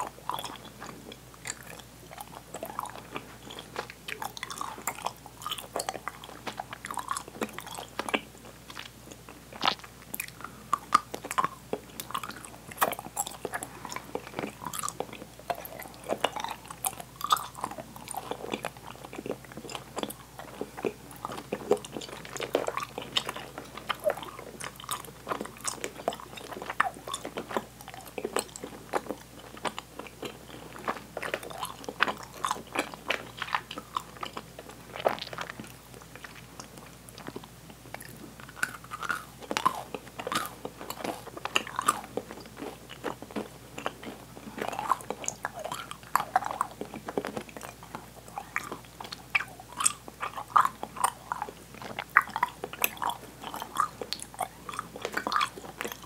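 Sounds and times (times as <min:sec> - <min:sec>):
open-mouthed chewing of sticky candy: 0:00.0 - 0:56.0.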